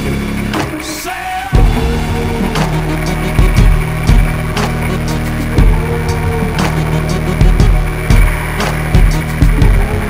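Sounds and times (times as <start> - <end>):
low thumps: 1.6 - 10.0
small aircraft engine running: 1.6 - 10.0.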